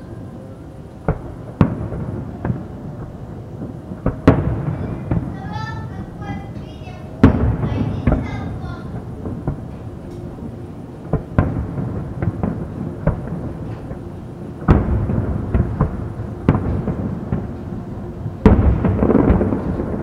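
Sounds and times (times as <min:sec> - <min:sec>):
rumbling echoes: 0:00.0 - 0:20.0
fireworks bangs: 0:01.1 - 0:20.0.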